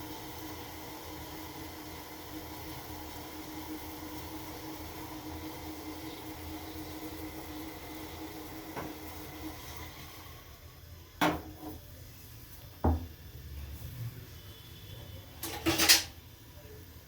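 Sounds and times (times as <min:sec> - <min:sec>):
kitchen appliance humming: 0:00.0 - 0:17.0.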